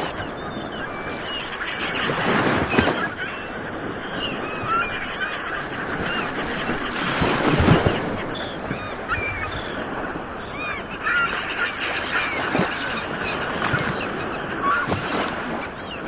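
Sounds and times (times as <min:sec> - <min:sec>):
birds calling over water: 0:00.0 - 0:16.0.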